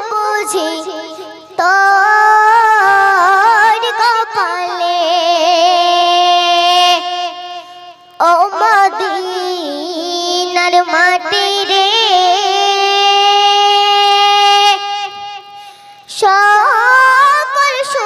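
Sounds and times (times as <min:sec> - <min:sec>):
boy singing into a microphone: 0:00.0 - 0:18.0.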